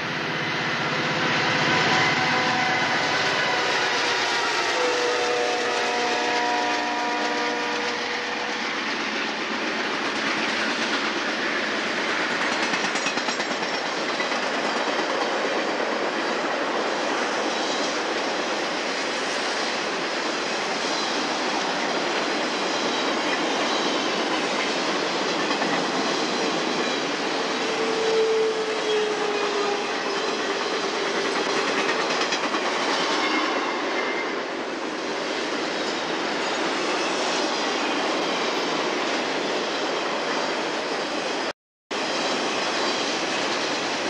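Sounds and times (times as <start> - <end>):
freight train wheels rumbling: 0.0 - 44.0
train wheel squeal: 0.0 - 44.0.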